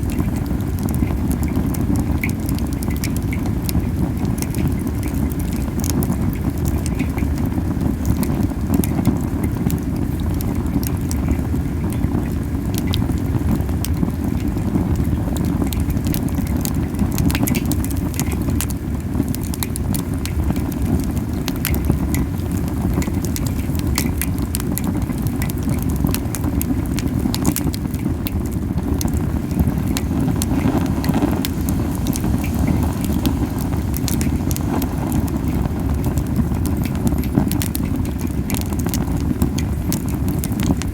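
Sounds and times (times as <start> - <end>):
campfire flames puffing: 0.0 - 40.9
wood crackling and popping: 0.0 - 40.9.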